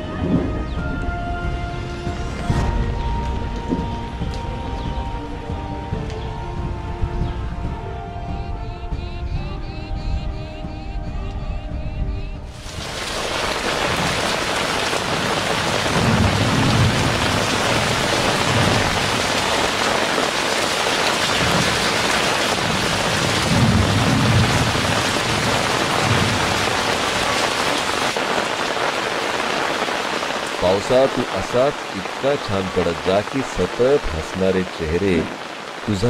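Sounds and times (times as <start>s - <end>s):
heavy rain pouring: 0.0s - 8.3s, 12.4s - 36.0s
low thunder rumbles: 0.0s - 8.3s, 12.0s - 36.0s.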